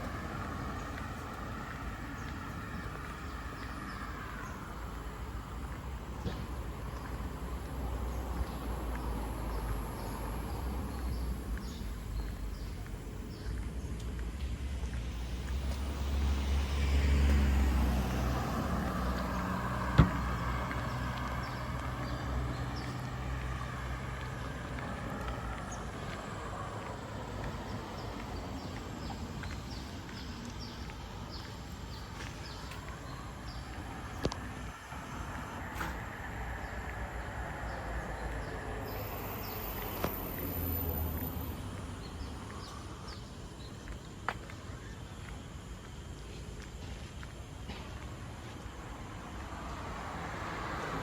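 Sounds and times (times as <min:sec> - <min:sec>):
vehicle passing on road: 0:00.0 - 0:44.6, 0:45.5 - 0:51.0.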